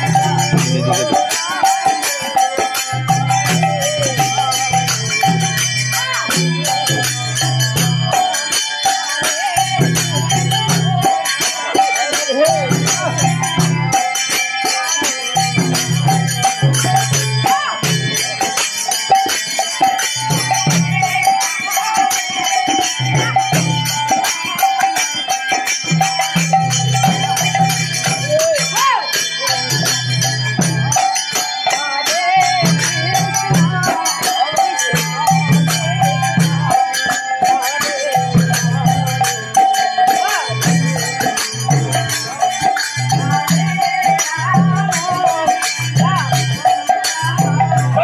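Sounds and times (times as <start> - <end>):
hand cymbals jingling: 0.0 - 48.0.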